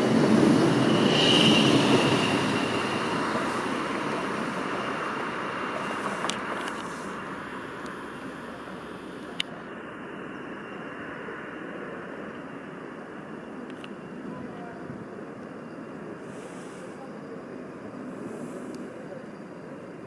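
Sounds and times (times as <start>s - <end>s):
train rolling noise: 0.0s - 20.0s.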